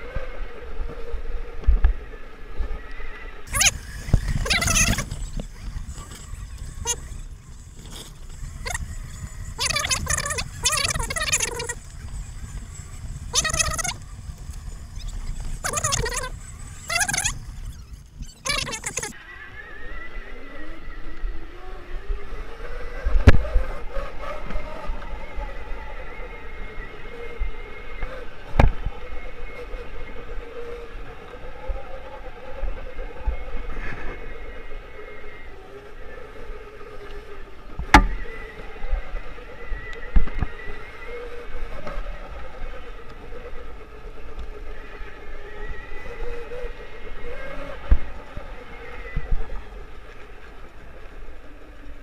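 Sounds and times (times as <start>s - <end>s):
electric motor whining: 2.8s - 52.0s.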